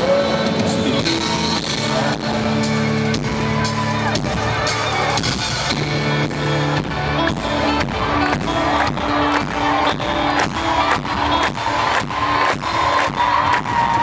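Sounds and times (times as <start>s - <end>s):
live band sustained chords: 0.0s - 14.0s
steady drum beat: 0.0s - 14.0s.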